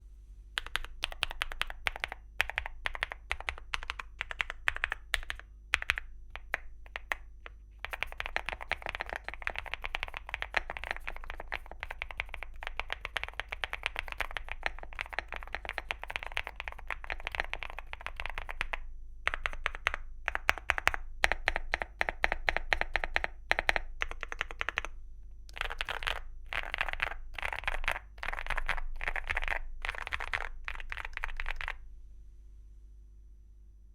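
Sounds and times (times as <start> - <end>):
mechanical keyboard typing: 0.6 - 31.8.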